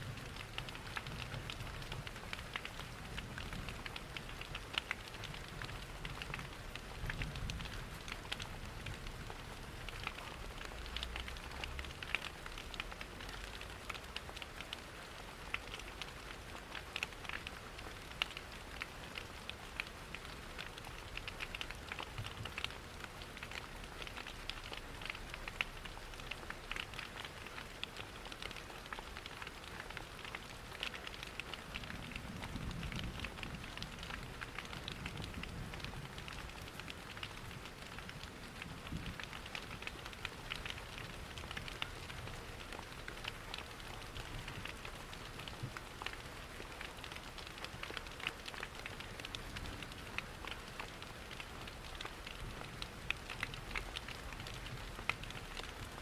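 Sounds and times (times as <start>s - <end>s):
steady rain: 0.0s - 56.0s
wood fire crackling: 0.2s - 56.0s.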